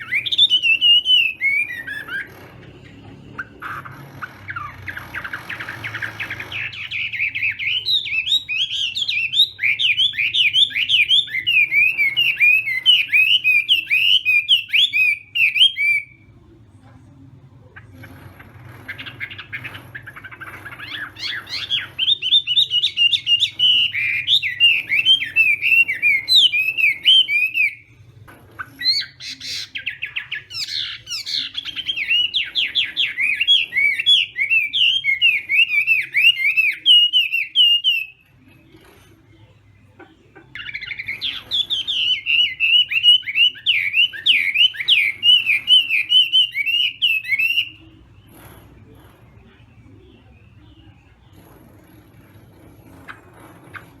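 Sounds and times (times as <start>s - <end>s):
bird singing warbling phrases: 0.0s - 16.4s, 17.6s - 48.6s.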